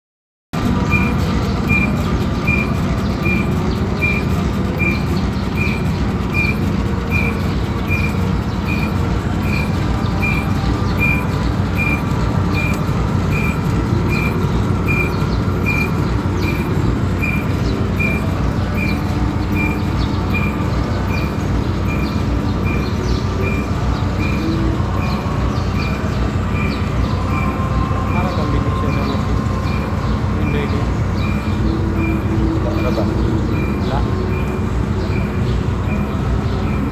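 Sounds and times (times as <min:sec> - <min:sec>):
metal lathe running: 0:00.6 - 0:36.9.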